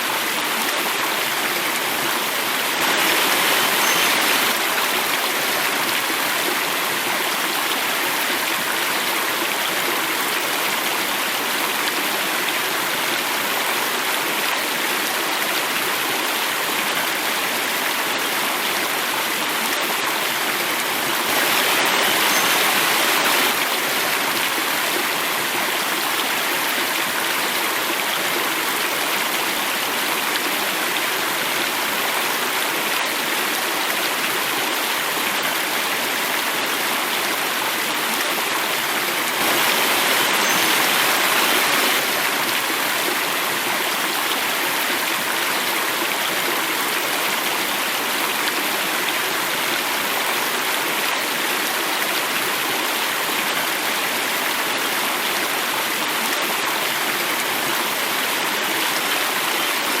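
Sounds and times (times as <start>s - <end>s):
water cascade rushing: 0.0s - 60.0s.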